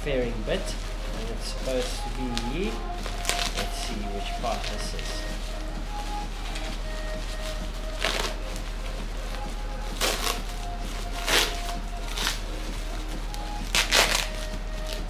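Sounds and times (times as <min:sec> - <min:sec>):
faint background music: 0:00.0 - 0:15.0
packaging wrap rustling: 0:00.0 - 0:15.0.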